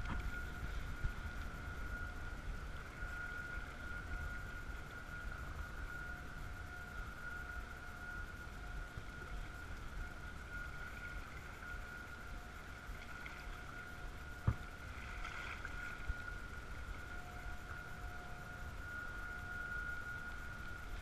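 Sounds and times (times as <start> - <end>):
thin steady whine: 0.0 - 21.0
wind and water rumble around boat: 0.0 - 21.0.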